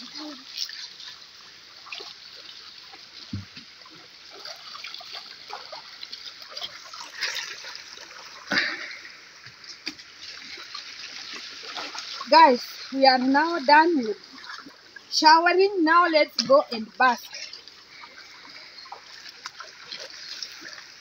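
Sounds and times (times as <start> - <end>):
river water over stones: 0.0 - 21.0.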